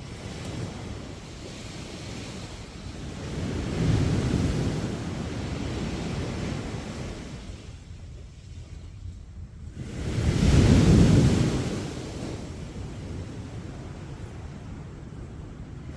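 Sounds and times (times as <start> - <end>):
sea waves breaking on beach: 0.0 - 9.0, 9.6 - 15.9.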